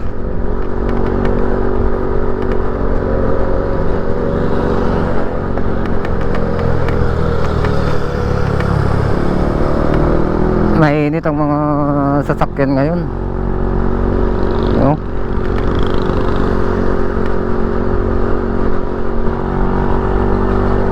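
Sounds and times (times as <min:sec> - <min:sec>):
motorcycle engine running: 0:00.0 - 0:20.9
road noise: 0:00.0 - 0:20.9
wind noise: 0:00.0 - 0:20.9.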